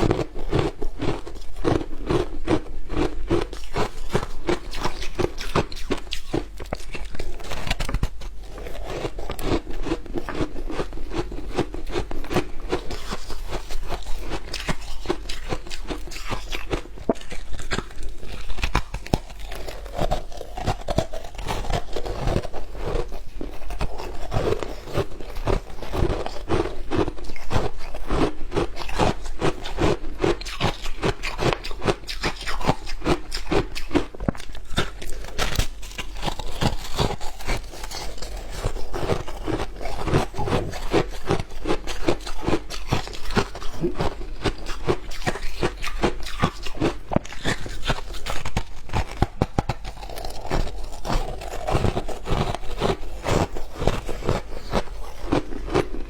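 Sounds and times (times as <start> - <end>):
teeth crunching ice: 0.0 - 56.0.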